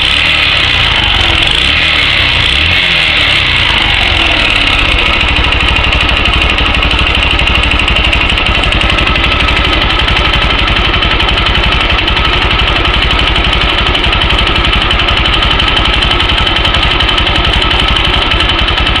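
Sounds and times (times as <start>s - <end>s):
engine knock: 0.0s - 19.0s
motorcycle engine idling: 0.0s - 19.0s.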